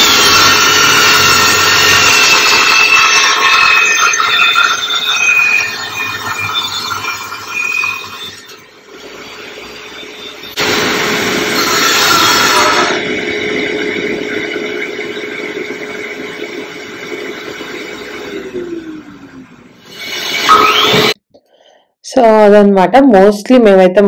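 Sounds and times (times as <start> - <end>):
circular saw cutting wood: 0.0 - 21.2
saw motor hum: 0.0 - 21.2.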